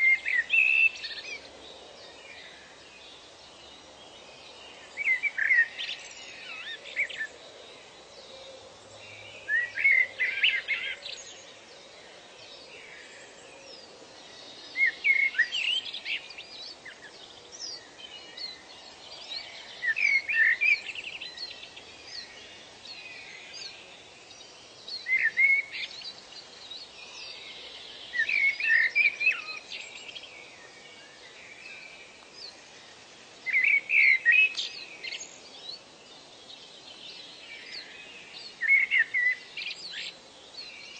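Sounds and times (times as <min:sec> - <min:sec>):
background hiss: 0:00.0 - 0:40.9
songbird chirping: 0:00.0 - 0:40.9.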